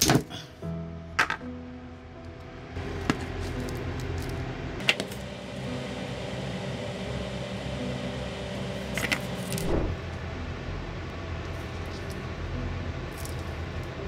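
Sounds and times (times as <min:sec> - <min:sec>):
steady mechanical hum: 0:01.8 - 0:14.0.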